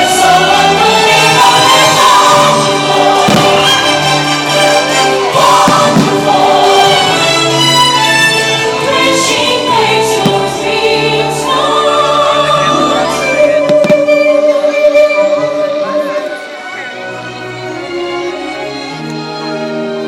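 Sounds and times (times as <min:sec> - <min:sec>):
choir singing held notes: 0:00.0 - 0:17.5
orchestral music: 0:00.0 - 0:20.0.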